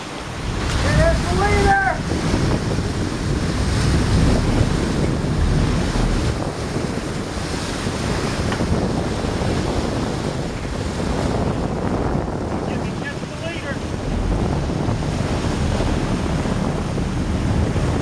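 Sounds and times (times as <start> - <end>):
sea water washing: 0.0 - 18.0
wind buffeting microphone: 0.0 - 18.0.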